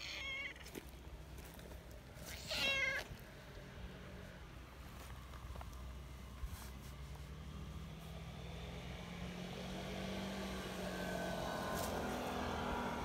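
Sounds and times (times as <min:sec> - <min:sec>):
vehicle engine humming: 0:00.6 - 0:13.0.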